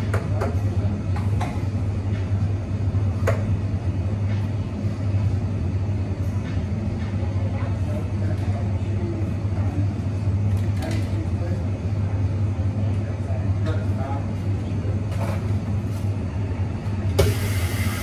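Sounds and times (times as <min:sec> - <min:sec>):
low hum of machinery: 0:00.0 - 0:18.0.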